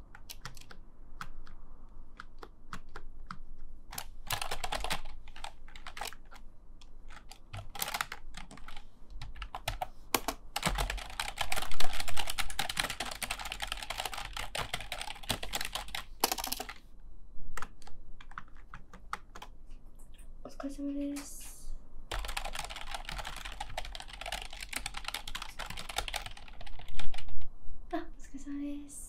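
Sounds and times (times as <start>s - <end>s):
fast typing on keyboard: 0.0s - 6.4s, 7.0s - 16.8s, 17.6s - 19.5s, 22.1s - 27.3s.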